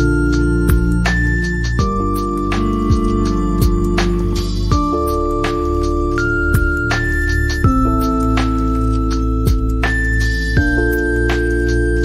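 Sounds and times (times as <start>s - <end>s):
keyboard music over a beat: 0.0s - 12.0s.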